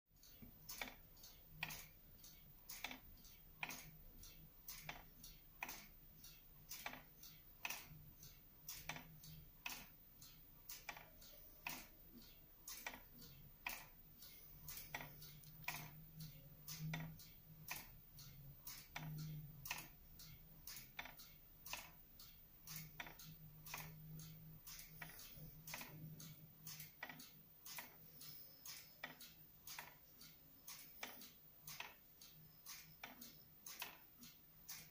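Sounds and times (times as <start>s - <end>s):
wall clock ticking: 0.2s - 34.9s.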